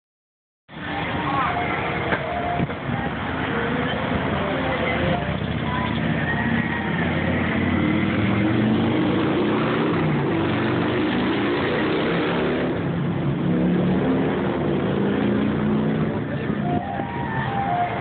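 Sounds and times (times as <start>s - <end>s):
street traffic rush: 0.7s - 18.0s
vehicle engine accelerating: 3.1s - 18.0s.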